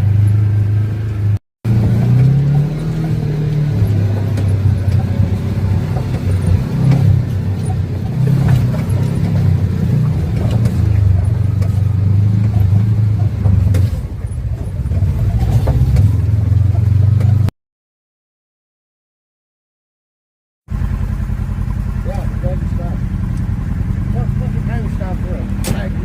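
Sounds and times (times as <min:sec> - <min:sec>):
off-road vehicle engine under load: 0:00.0 - 0:17.5, 0:20.7 - 0:26.0.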